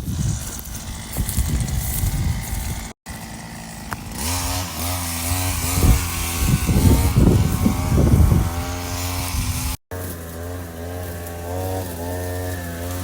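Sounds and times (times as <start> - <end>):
two-stroke power tool engine: 0.0 - 13.0.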